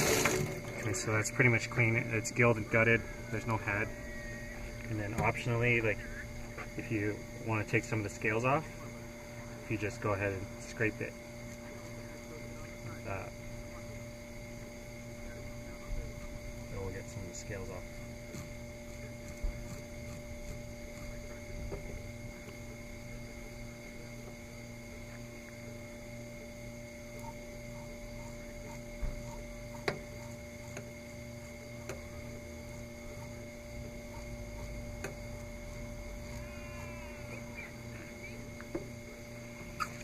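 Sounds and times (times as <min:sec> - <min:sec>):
electrical hum: 0:00.0 - 0:40.0.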